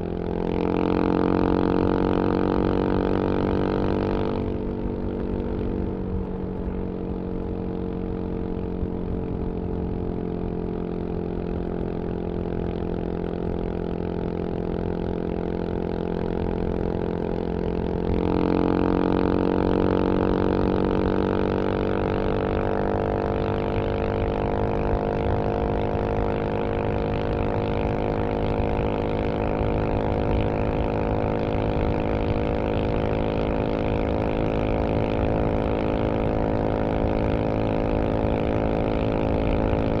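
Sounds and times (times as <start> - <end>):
motorcycle engine at high revs: 0.0 - 40.0.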